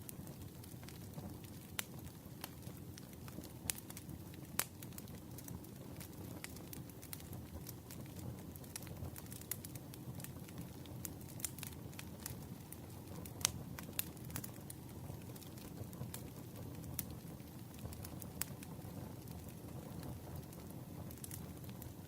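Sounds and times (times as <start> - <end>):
campfire flames rumbling: 0.0 - 22.0
fire crackling and popping: 0.0 - 22.0.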